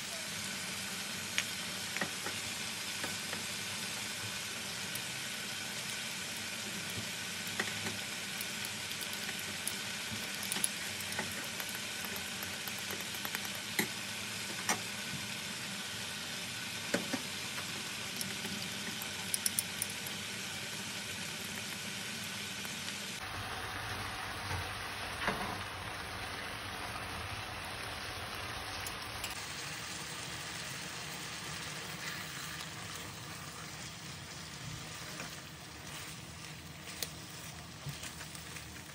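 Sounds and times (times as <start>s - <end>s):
food sizzling in a frying pan: 0.0s - 38.9s.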